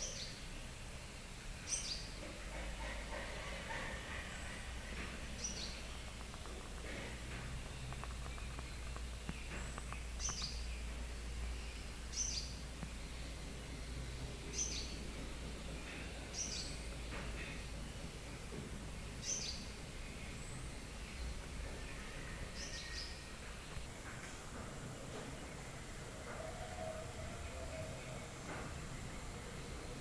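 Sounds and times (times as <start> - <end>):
songbird chirping: 0.0 - 30.0
steady low hum: 0.0 - 30.0.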